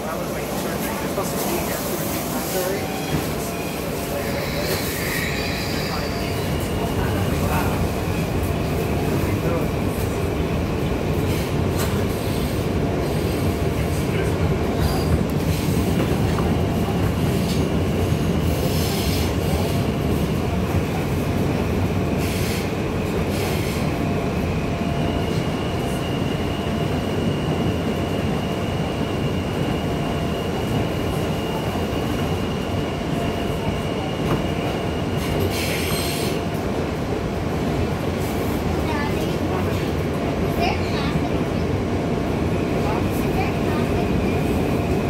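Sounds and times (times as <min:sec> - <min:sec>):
subway wheels rumbling on rail: 0:00.0 - 0:45.0.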